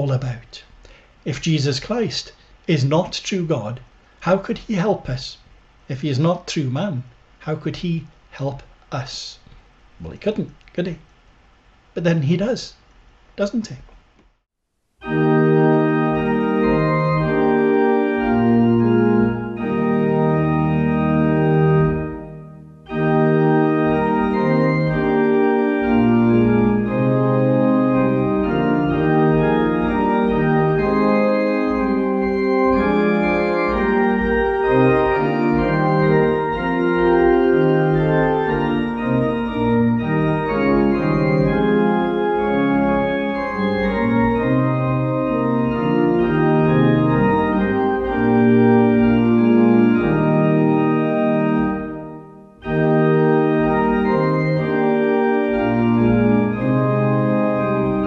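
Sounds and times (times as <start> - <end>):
organ playing hymn chords: 0.0 - 9.4, 15.0 - 58.0.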